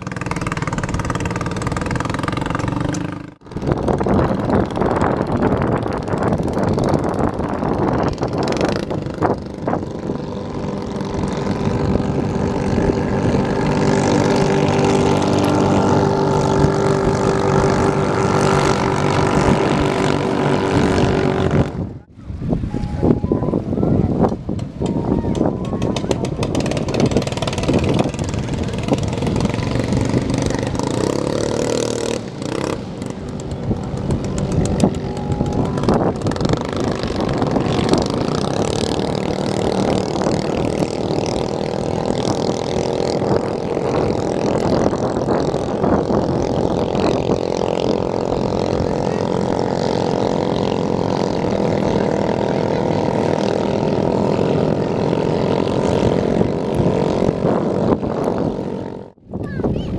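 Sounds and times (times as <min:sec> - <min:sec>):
racing boat engines at high revs: 0:00.0 - 0:22.1, 0:24.2 - 0:59.3.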